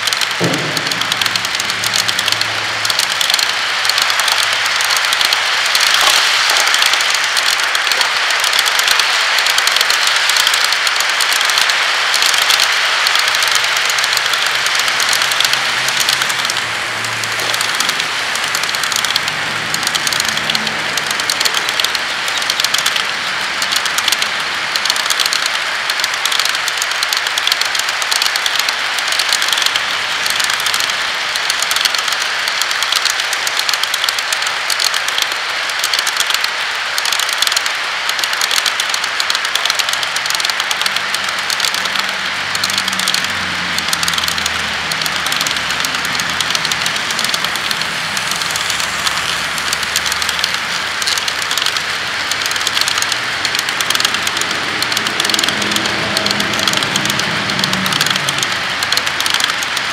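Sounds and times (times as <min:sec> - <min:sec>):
model train cars clattering: 0:00.0 - 0:59.9.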